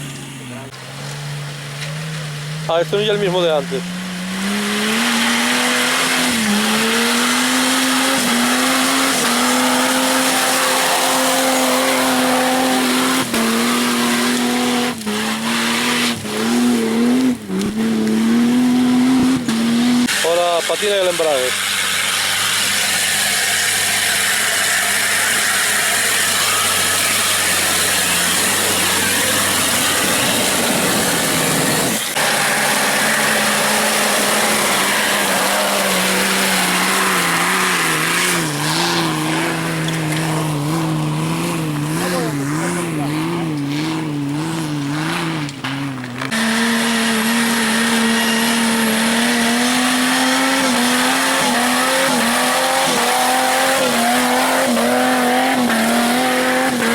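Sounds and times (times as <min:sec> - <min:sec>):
off-road engine revving hard: 0:00.0 - 0:56.9.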